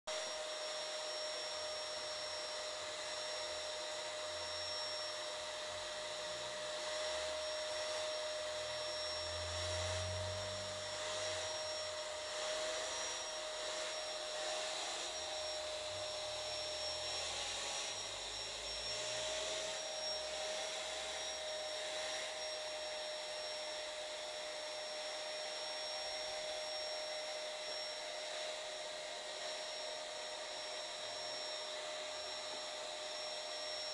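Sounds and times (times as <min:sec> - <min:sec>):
steady whine: 0:00.1 - 0:33.9.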